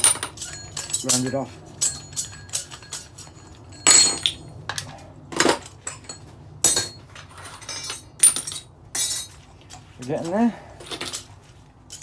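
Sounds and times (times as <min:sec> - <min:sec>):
metal parts clinking: 0:00.0 - 0:09.4, 0:10.0 - 0:12.0.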